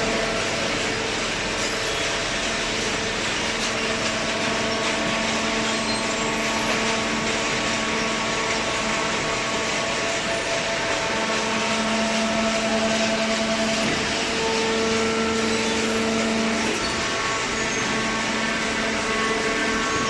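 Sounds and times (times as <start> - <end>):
hydraulic baler hum: 0.0 - 20.0.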